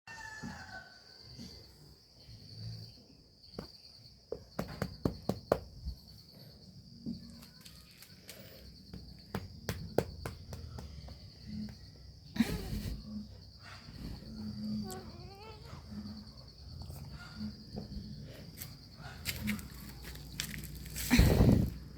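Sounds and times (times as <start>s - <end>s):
high cricket-like chirring: 0.1s - 21.9s.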